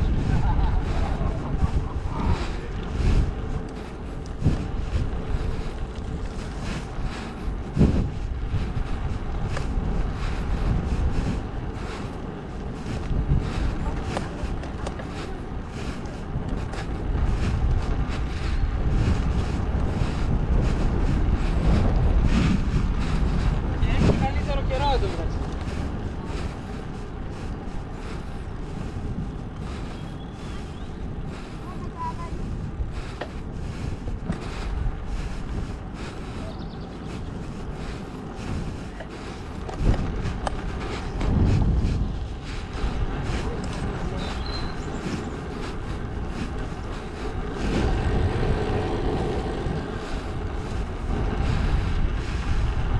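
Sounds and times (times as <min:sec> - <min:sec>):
bicycle tyres rolling on path: 0:00.0 - 0:52.9
wind buffeting microphone: 0:00.0 - 0:52.9.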